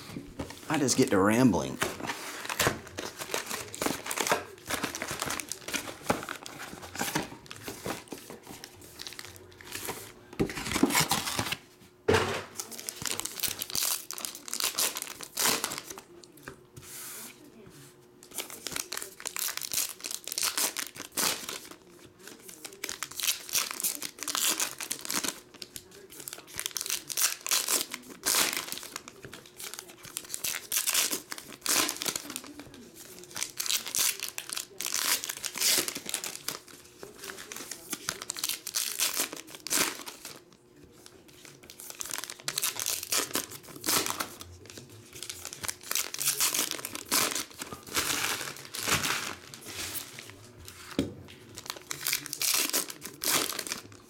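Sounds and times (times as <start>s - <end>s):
wrappers crinkling and tearing: 0.7s - 11.6s, 12.6s - 16.2s, 18.2s - 50.5s, 51.3s - 54.0s.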